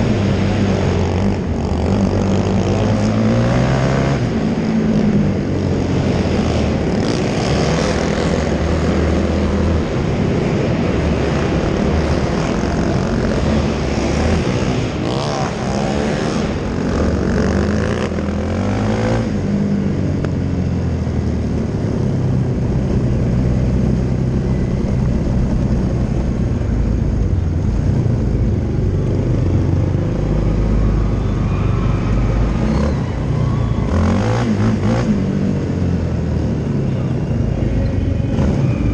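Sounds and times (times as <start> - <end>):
racing quad engines revving: 0.0 - 38.9.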